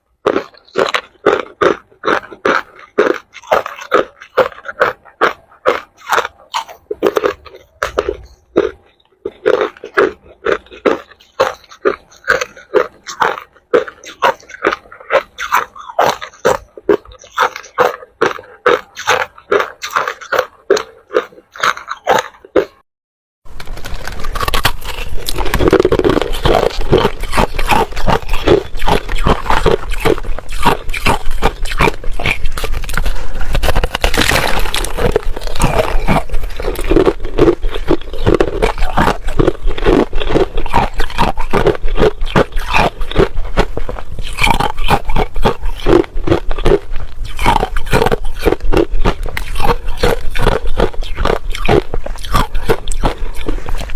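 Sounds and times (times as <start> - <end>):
ice being chewed: 0.0 - 22.8, 23.5 - 53.9.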